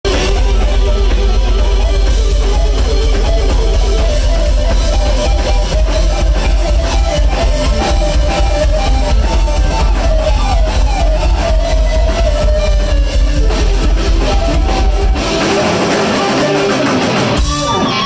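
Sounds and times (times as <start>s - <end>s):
drum kit: 0.0s - 18.0s
electric bass: 0.0s - 18.0s
electric guitar: 0.0s - 18.0s.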